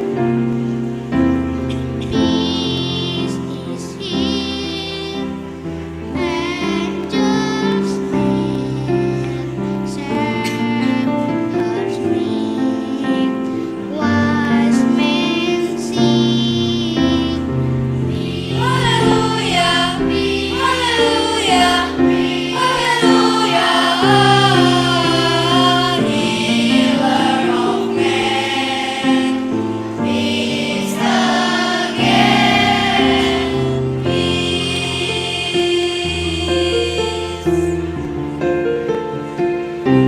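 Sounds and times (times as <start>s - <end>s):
children's choir singing: 0.0s - 40.0s
instrumental accompaniment: 0.0s - 40.0s.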